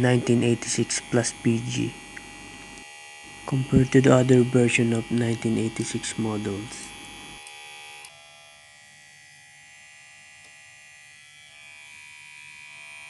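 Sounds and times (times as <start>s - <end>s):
hair clipper buzzing: 0.0s - 13.0s.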